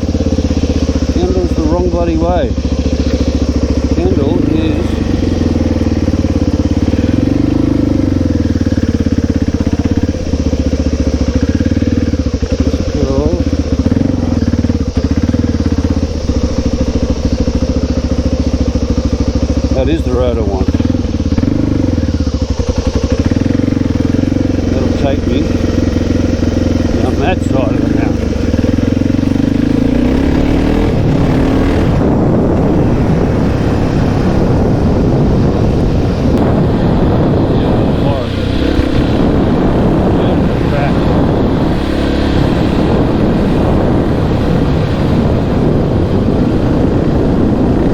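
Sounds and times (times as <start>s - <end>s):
single-cylinder engine pulsing: 0.0s - 47.9s.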